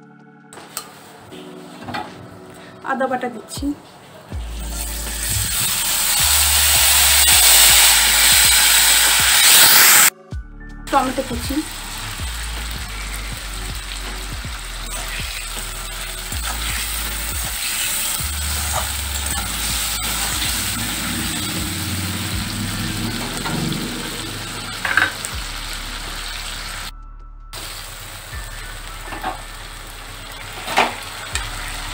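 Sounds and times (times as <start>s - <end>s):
tomatoes sizzling in oil: 4.4s - 10.1s, 10.9s - 26.9s, 27.6s - 31.9s.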